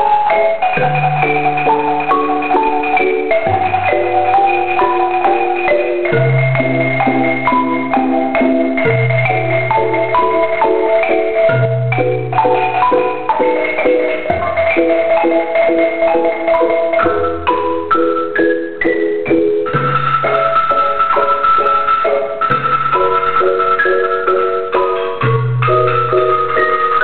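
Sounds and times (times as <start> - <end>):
marimba ensemble playing: 0.0 - 27.0.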